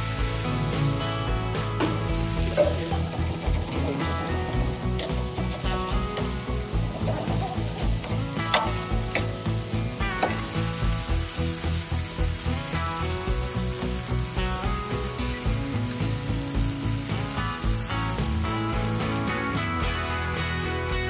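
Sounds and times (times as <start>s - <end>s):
background music with beat: 0.0s - 21.0s
patties sizzling on griddle: 0.0s - 21.0s.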